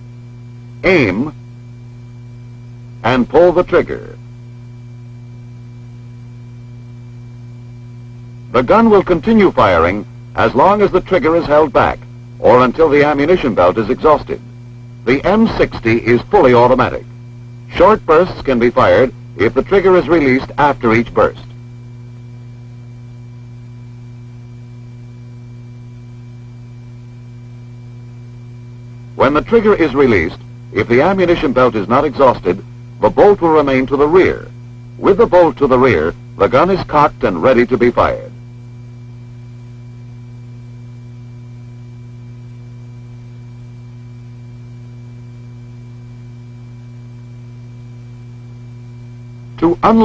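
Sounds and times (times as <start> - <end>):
electrical hum: 0.0 - 50.0.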